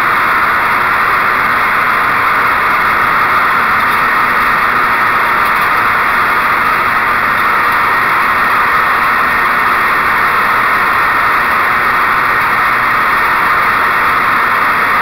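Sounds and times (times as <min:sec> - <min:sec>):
lawn mower running over leaves: 0:00.0 - 0:15.0.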